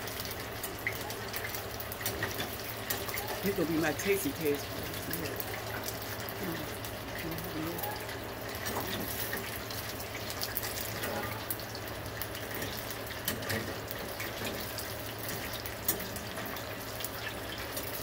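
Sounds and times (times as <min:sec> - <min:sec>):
crackles and pops: 0:00.0 - 0:18.0
hot oil sizzling: 0:00.0 - 0:18.0.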